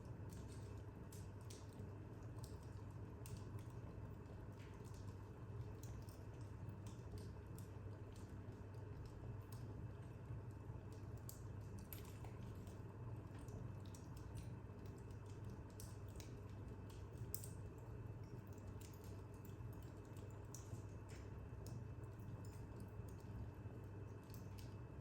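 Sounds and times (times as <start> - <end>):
low steady hum: 0.0 - 25.0
wood fire crackling: 0.0 - 25.0.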